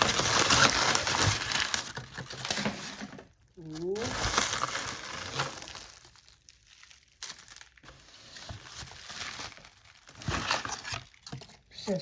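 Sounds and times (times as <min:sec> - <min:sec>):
packaging crinkling: 0:00.0 - 0:11.7.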